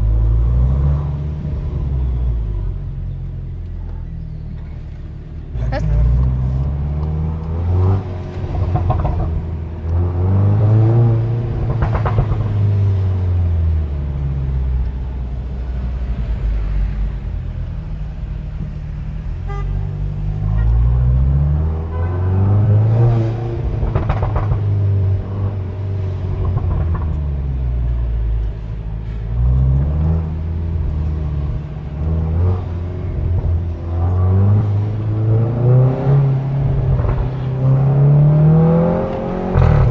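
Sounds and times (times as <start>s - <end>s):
car engine revving: 4.6s - 39.9s.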